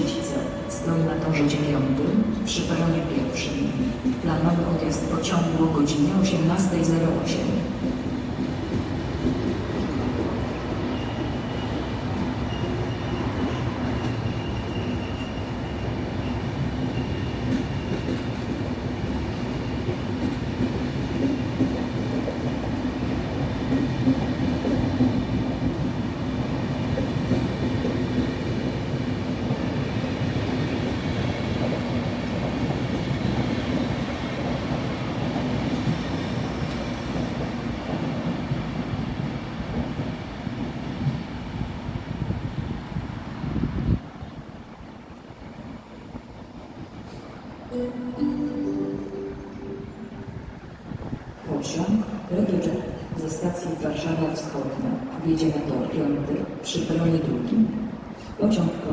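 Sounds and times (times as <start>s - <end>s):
train running noise: 0.0s - 58.9s.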